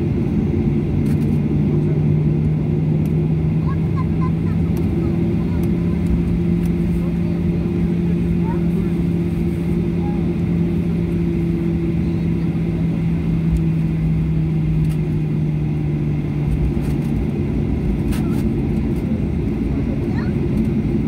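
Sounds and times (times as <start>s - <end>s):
airliner engines droning in cabin: 0.0s - 21.0s.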